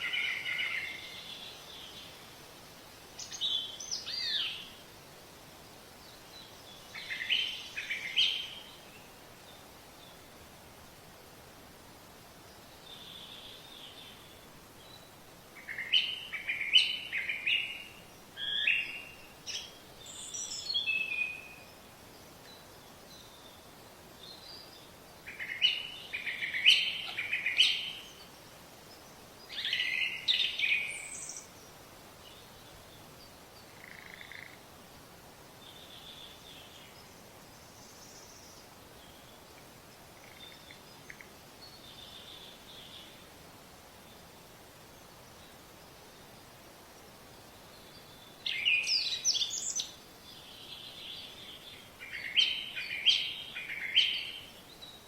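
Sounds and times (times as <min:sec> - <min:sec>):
songbird chirping: 0:00.0 - 0:11.4, 0:12.0 - 0:55.0
faint background hiss: 0:00.0 - 0:55.0.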